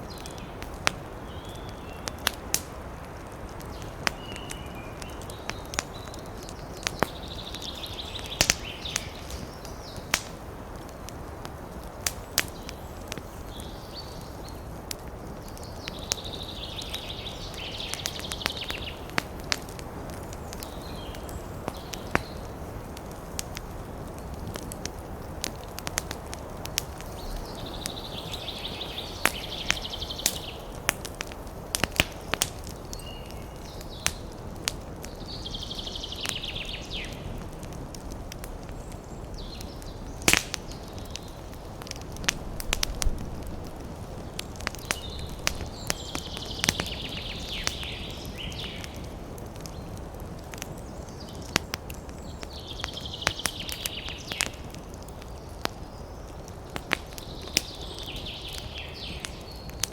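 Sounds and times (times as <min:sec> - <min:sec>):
low rumble of burning: 0:00.0 - 0:59.9
wood fire crackling: 0:00.0 - 0:59.9
sharp pops of fire: 0:00.1 - 0:59.9.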